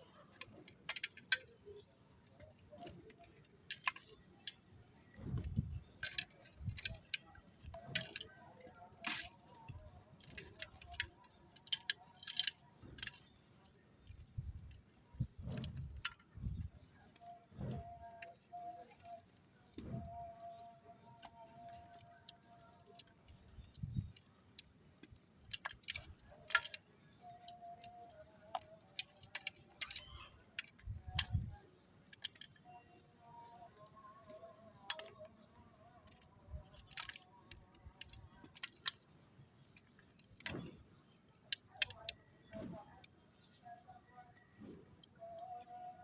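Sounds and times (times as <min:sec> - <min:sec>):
dry clay crunching: 0:00.0 - 0:46.0.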